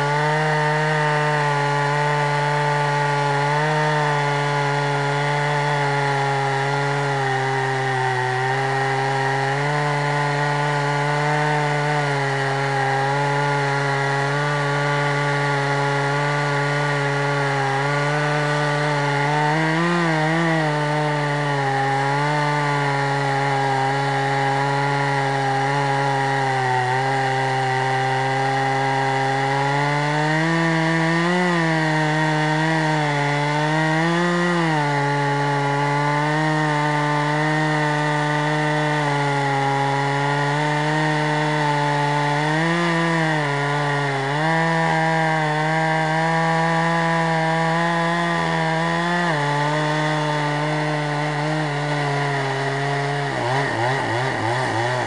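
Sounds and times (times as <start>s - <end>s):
chainsaw cutting wood under load: 0.0s - 55.0s.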